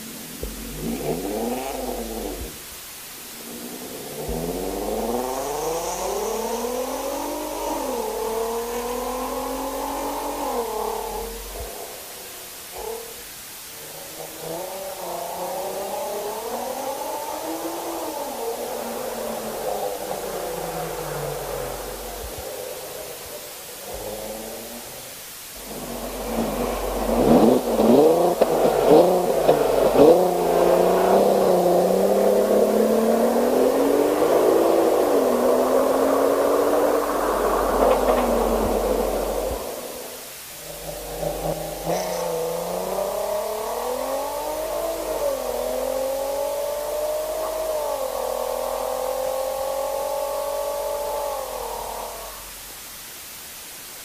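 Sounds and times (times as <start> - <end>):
car engine accelerating: 0.0 - 53.3.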